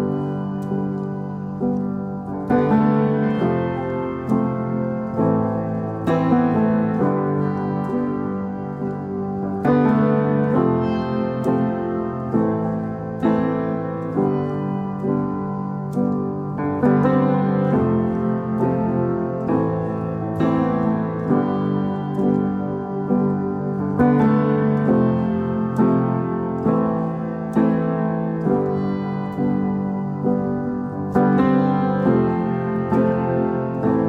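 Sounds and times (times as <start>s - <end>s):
piano chords: 0.0s - 34.0s.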